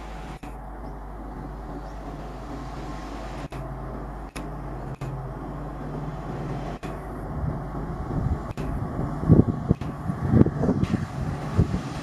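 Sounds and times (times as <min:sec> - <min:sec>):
diesel locomotive engine droning: 0:00.0 - 0:12.0.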